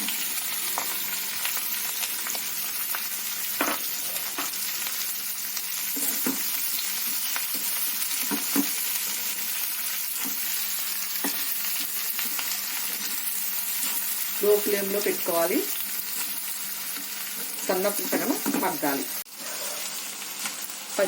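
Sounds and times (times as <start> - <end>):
chilli sizzling in hot oil: 0.0 - 21.0.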